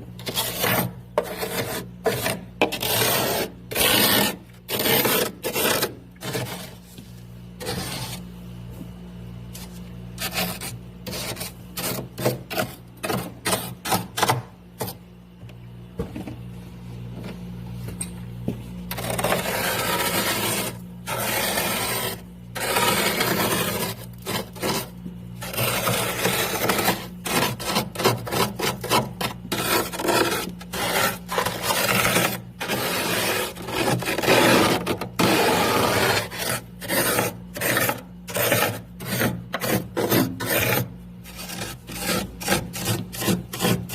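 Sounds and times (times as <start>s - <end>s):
ice scraping in freezer: 0.0s - 8.3s, 9.5s - 15.0s, 18.9s - 43.9s
steady low hum: 0.0s - 43.9s.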